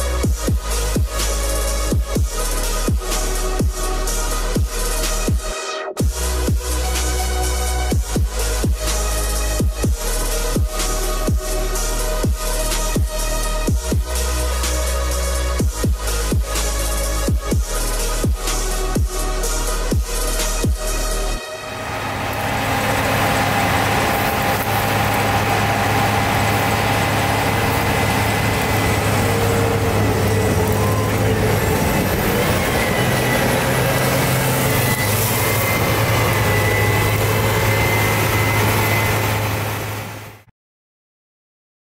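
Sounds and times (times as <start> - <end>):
diesel farm machinery running: 6.1 - 40.5.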